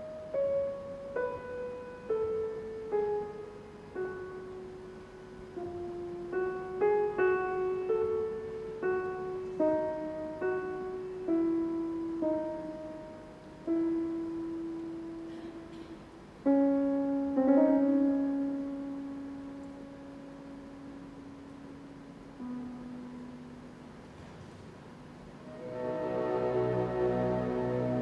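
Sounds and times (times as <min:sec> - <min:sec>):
soft slow piano: 0:00.0 - 0:28.0.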